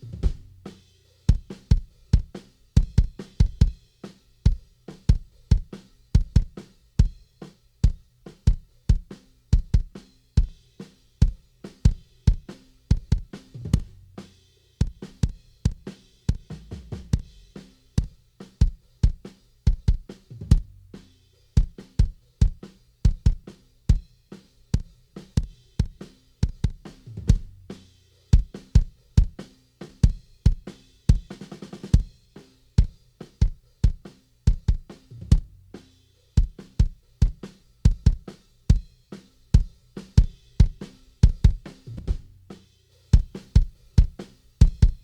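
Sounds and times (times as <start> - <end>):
drum kit playing a beat: 0.0 - 45.0.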